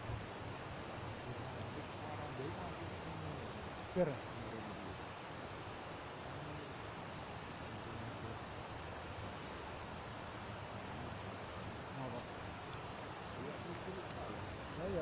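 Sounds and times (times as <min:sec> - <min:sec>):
background hiss: 0:00.0 - 0:15.0
high-pitched insect trill: 0:00.0 - 0:15.0.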